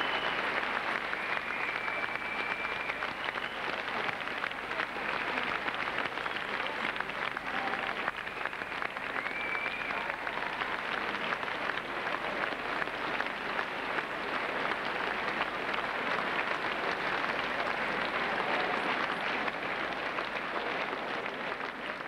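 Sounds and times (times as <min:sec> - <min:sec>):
large audience applauding: 0:00.0 - 0:22.0.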